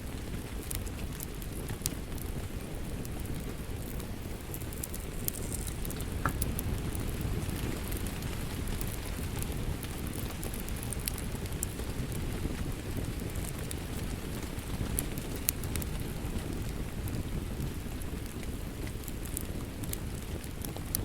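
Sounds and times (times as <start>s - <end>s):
fire crackles and pops: 0.0s - 21.0s
wood fire rumbling: 0.0s - 21.0s.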